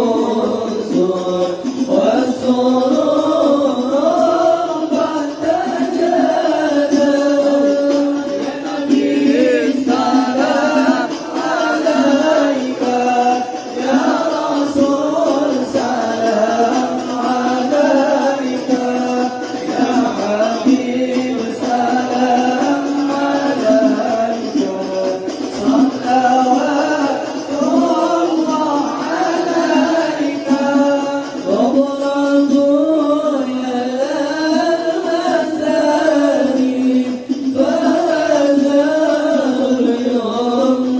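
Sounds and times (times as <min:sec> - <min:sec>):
group singing devotional chant: 0:00.0 - 0:40.9.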